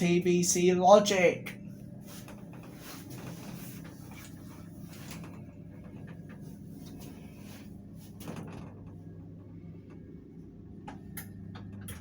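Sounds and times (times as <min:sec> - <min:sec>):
lift electric hum: 0:00.0 - 0:12.0.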